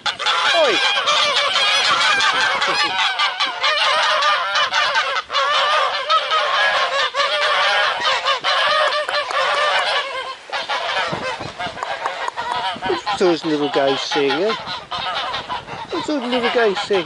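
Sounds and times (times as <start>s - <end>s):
geese honking and cackling: 0.0s - 17.0s.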